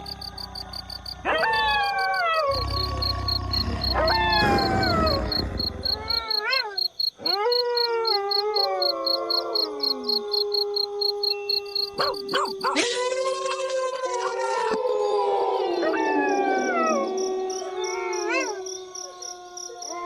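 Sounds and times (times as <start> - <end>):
wolves howling: 0.0 - 13.0, 13.9 - 20.0.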